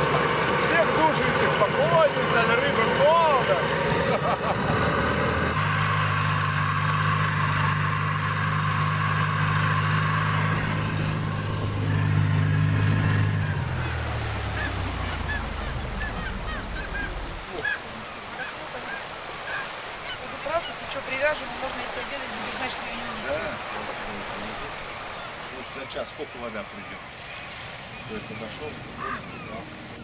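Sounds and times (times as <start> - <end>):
birds calling: 0.0 - 30.0
boat motor running: 0.0 - 30.0.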